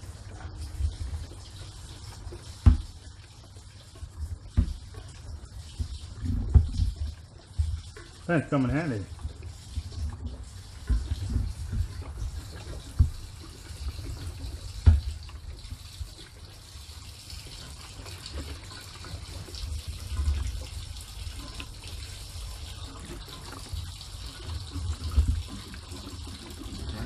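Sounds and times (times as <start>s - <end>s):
fuel pouring into tank: 0.0s - 27.0s.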